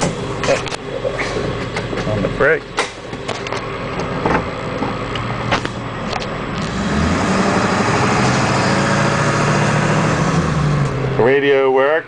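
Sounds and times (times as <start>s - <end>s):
diesel engine from inside cab: 0.0s - 12.0s.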